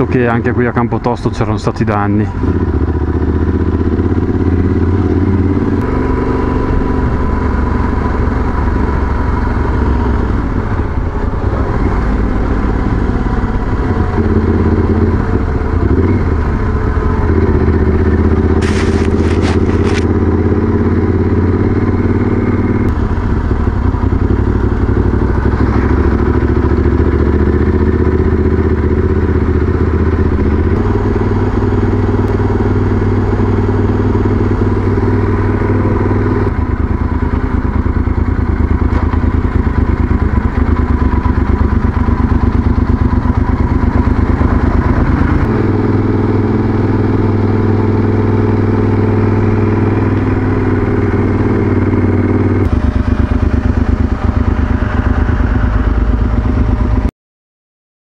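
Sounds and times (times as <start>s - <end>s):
motorcycle engine running: 0.0s - 57.1s.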